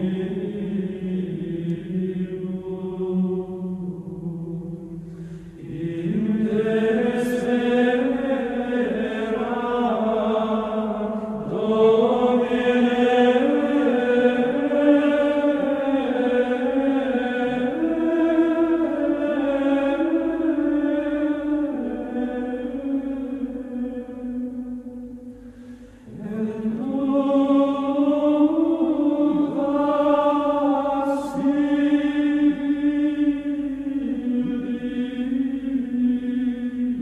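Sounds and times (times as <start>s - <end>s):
vocal chant with held notes: 0.0s - 37.0s.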